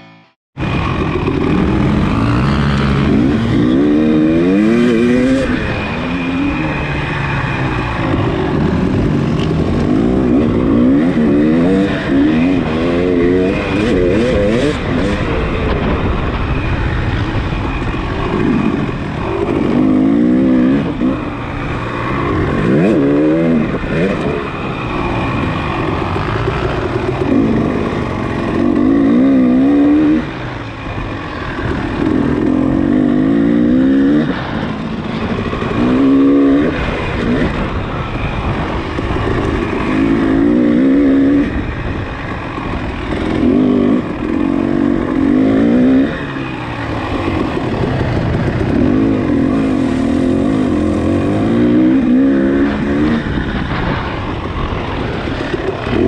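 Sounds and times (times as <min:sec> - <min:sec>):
off-road motorcycle engine racing: 0:00.0 - 0:56.0.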